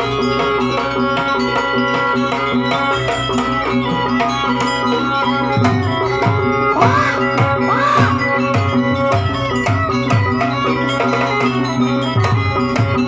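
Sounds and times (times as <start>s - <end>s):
hand drums beating: 2.0s - 13.0s.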